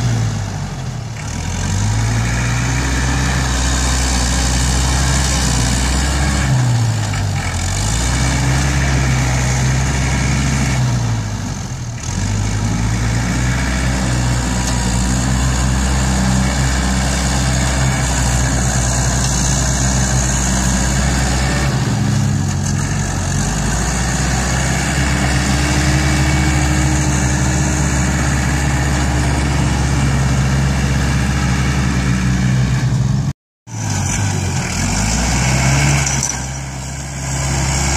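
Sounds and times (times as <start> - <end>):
tractor diesel engine running hard: 0.0 - 37.9.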